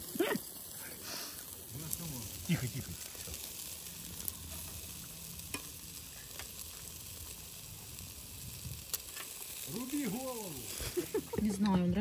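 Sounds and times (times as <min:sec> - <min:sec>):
meat sizzling over charcoal: 0:00.0 - 0:12.0.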